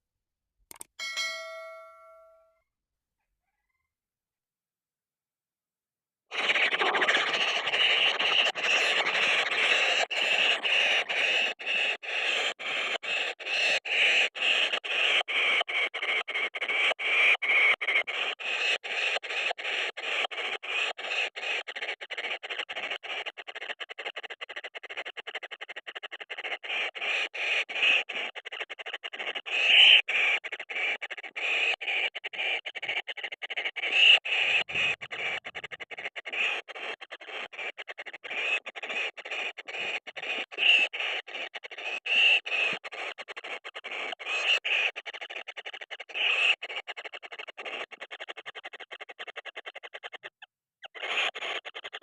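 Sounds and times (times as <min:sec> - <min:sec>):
nestlings rasping begging calls: 0:06.3 - 0:23.7, 0:26.2 - 0:49.4, 0:50.8 - 0:52.0.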